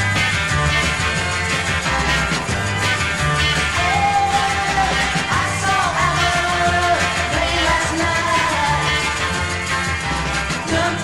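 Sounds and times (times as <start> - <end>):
instrumental rock and roll music: 0.0 - 11.0.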